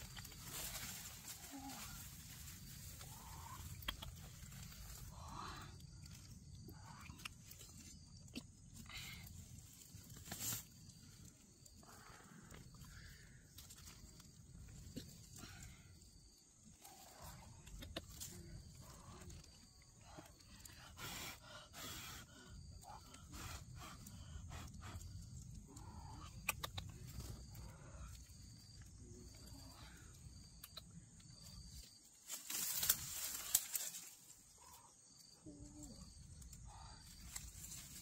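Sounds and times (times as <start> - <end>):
quiet forest ambience: 0.0 - 38.0.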